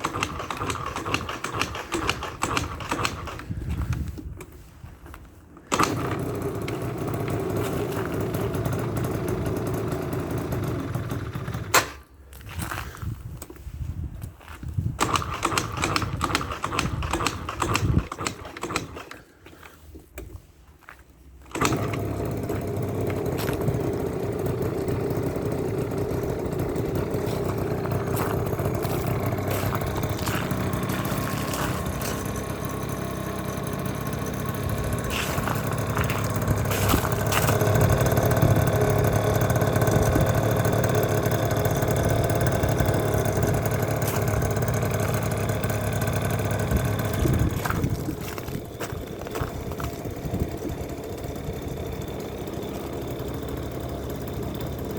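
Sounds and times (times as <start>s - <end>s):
scooter engine starting and running: 0.0s - 54.9s.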